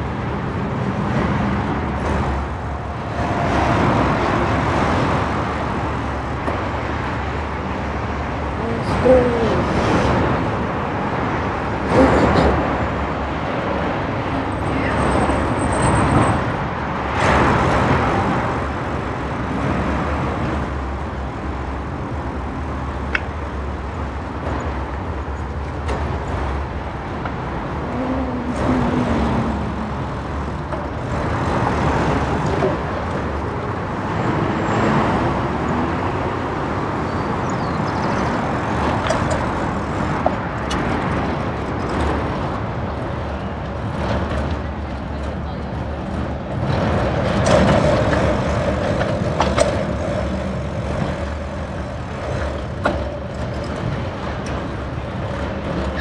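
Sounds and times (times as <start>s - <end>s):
cars and buses passing: 0.0s - 56.0s
low traffic rumble: 0.0s - 56.0s.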